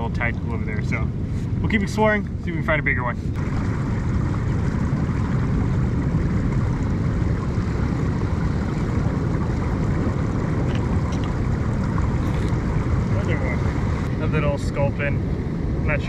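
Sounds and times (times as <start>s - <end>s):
wind on microphone: 0.0s - 16.0s
sea waves washing: 0.4s - 16.0s.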